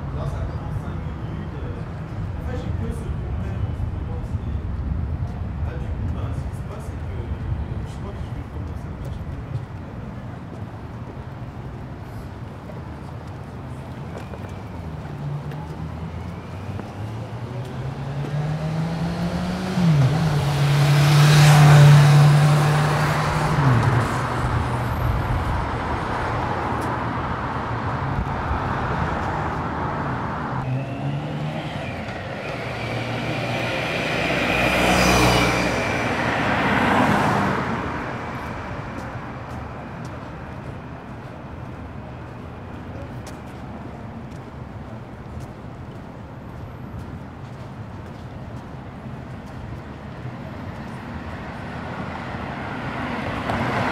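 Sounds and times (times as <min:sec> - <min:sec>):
vehicles passing: 0:00.0 - 0:53.9.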